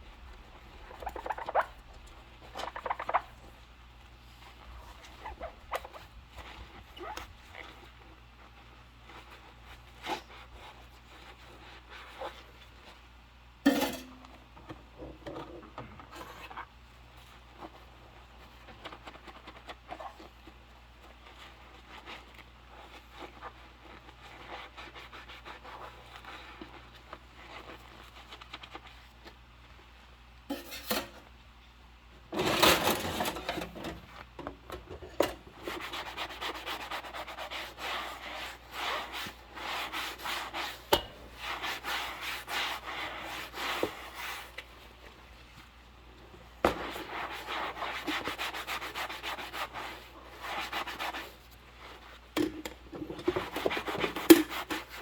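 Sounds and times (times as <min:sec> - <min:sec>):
dishes scrubbed with rubber gloves: 0:00.0 - 0:29.5, 0:30.5 - 0:31.3, 0:32.3 - 0:55.0.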